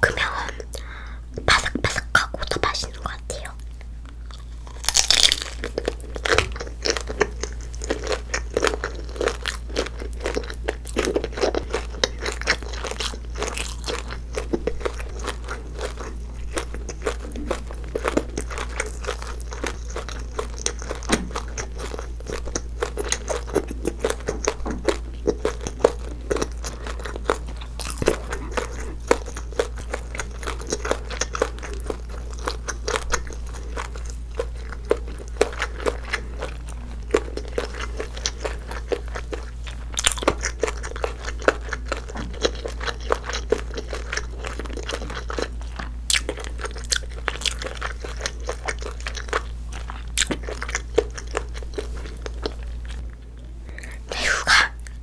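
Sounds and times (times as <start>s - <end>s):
faint low hum: 0.0s - 55.0s
wet crunching chewing: 3.6s - 55.0s.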